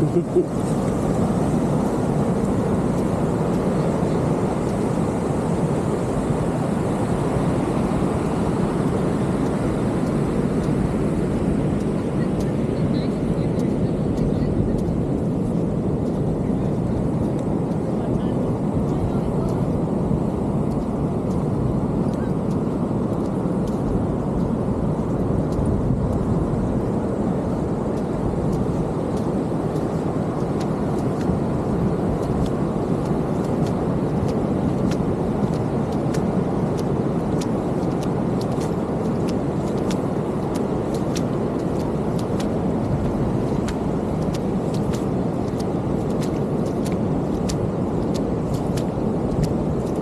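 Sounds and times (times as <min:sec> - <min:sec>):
waves breaking: 0:00.0 - 0:50.0.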